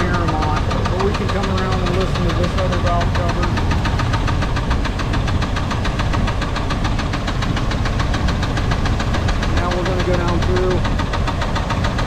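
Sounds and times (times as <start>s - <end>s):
engine running: 0.0s - 12.0s
rapid engine knocking: 0.0s - 12.0s.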